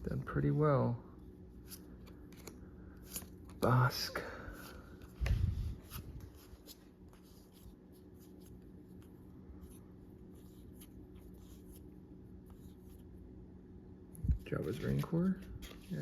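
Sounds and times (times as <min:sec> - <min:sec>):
trading cards rustling: 0:01.6 - 0:13.2, 0:14.4 - 0:16.0.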